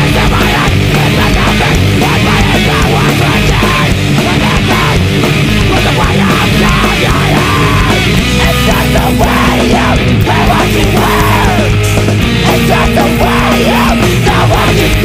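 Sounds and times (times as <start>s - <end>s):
busy drums: 0.0s - 15.0s
distorted electric guitars: 0.0s - 15.0s.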